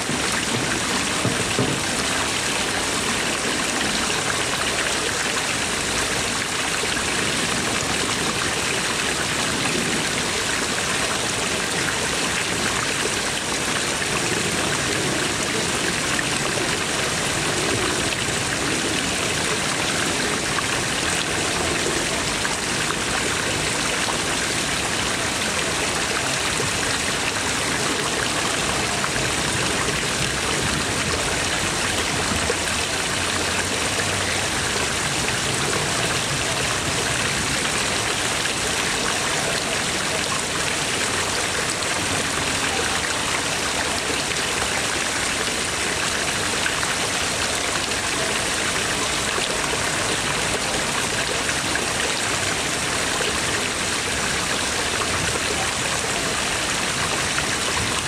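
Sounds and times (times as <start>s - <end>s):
water splashing into pond: 0.0s - 58.0s.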